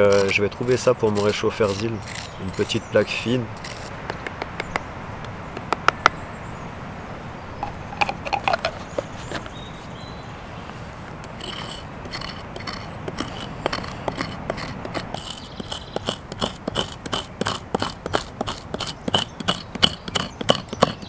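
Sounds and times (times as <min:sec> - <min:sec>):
knife scraping charred wood: 0:00.0 - 0:04.8, 0:07.6 - 0:10.0, 0:10.6 - 0:21.0.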